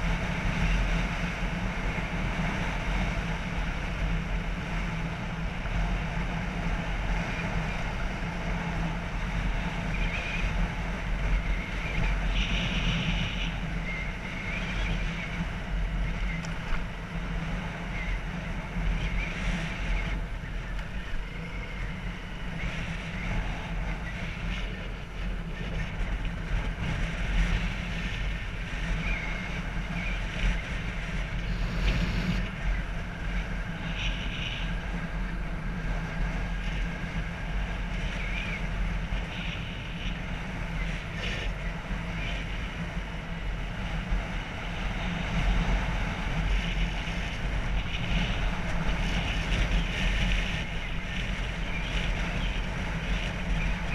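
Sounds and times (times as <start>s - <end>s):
motorbike engine running: 0.0s - 53.9s
wind noise on microphone: 0.0s - 53.9s.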